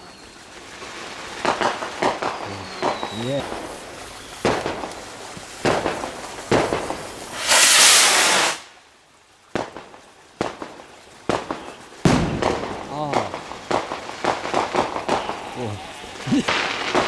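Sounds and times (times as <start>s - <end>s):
fireworks bangs: 0.0s - 8.7s, 9.6s - 17.0s
fireworks hissing burst: 0.0s - 8.8s, 11.3s - 17.0s.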